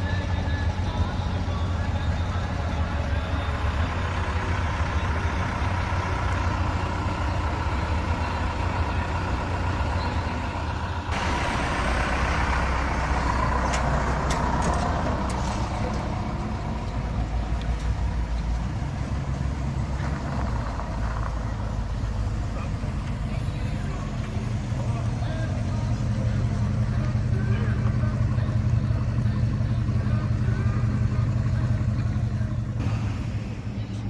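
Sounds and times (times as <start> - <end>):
car and truck engines rumbling: 0.0 - 34.0.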